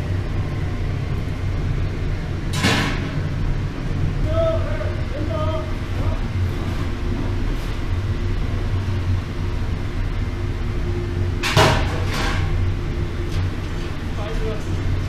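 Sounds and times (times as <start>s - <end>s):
furnace rumbling: 0.0s - 15.0s.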